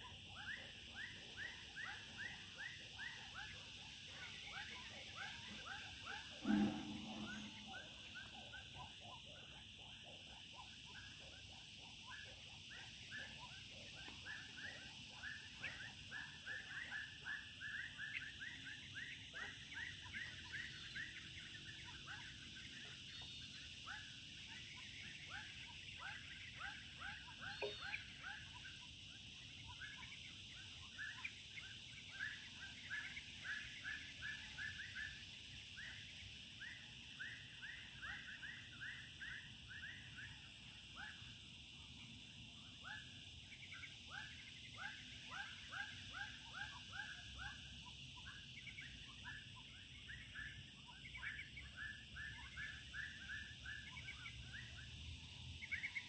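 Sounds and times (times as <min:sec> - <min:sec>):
high-pitched insect drone: 0:00.0 - 0:56.0
rapid chirping calls: 0:00.0 - 0:56.0.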